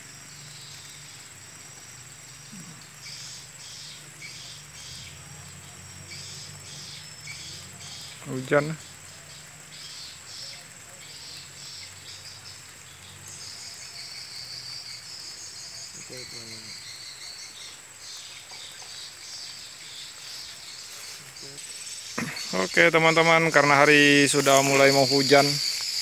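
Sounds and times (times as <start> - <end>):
insect high-pitched trill: 0.0 - 26.0
insect pulsing chirr: 0.0 - 26.0.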